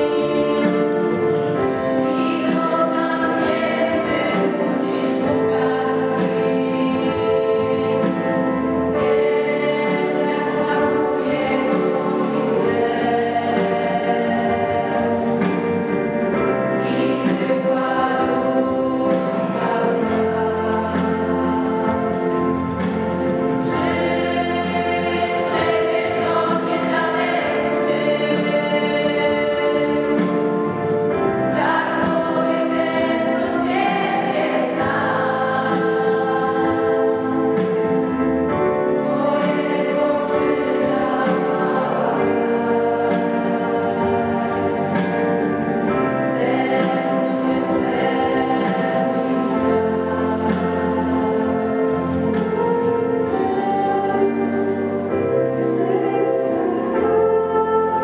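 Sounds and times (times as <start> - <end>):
choir singing along: 0.0 - 58.0.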